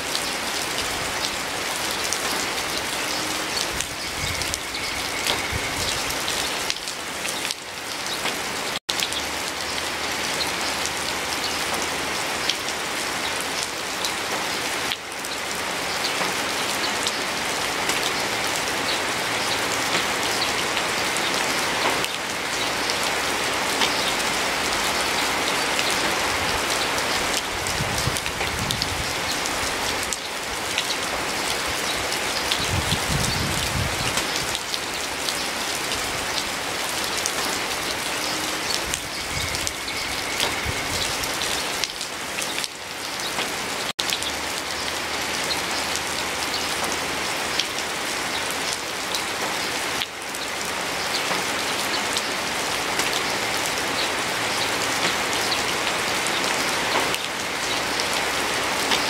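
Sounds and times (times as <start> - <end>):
rain drops tapping: 0.0 - 59.0.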